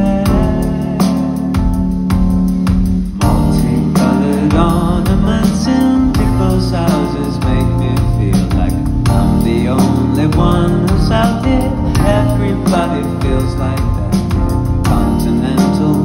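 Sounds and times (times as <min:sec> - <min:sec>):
man singing: 0:00.0 - 0:02.0, 0:03.2 - 0:16.0
live band music: 0:00.0 - 0:16.0.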